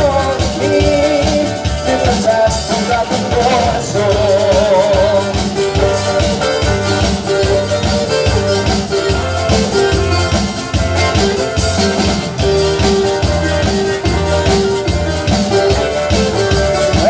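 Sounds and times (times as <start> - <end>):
latin band music: 0.0 - 17.0.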